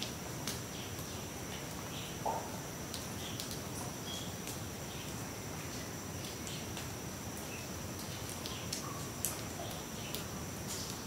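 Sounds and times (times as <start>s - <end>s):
faint clicks and chirps: 0.4s - 11.0s.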